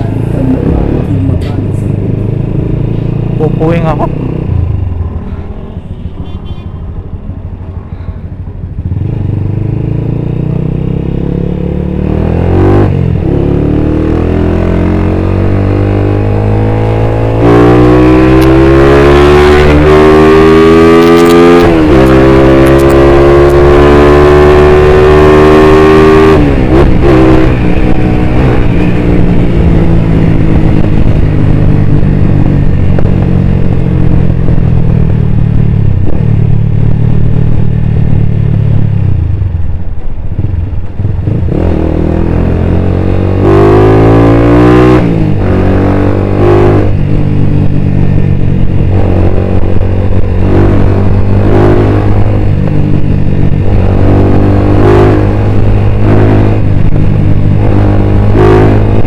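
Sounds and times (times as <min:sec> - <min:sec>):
motorcycle engine accelerating: 0:00.0 - 0:06.1, 0:06.9 - 0:59.0.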